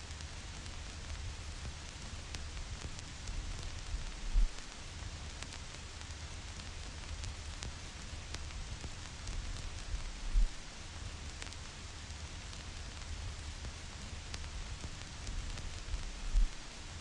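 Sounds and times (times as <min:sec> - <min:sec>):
vinyl record crackle: 0:00.0 - 0:17.0
white-noise hiss: 0:00.0 - 0:17.0.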